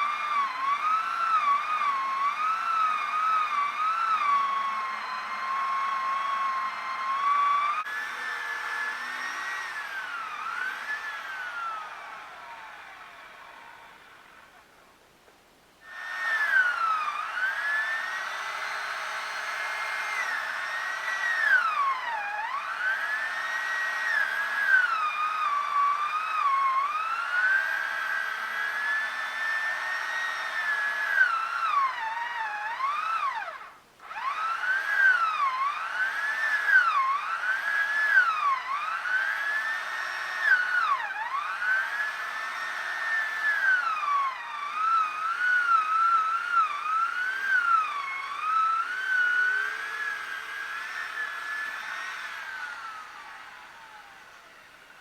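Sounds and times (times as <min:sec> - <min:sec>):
chainsaw cutting wood: 0:00.0 - 0:14.7, 0:15.8 - 0:55.0.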